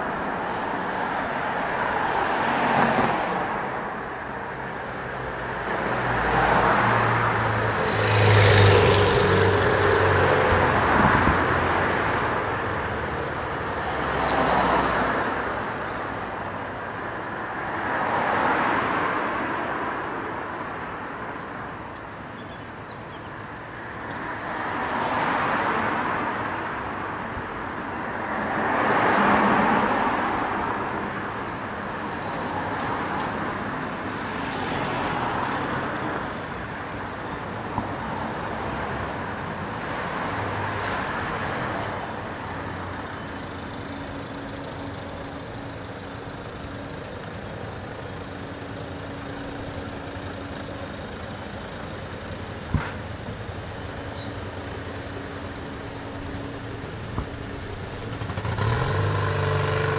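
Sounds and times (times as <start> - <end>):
traffic hum: 0.0 - 59.9
vehicles passing by: 0.0 - 59.9.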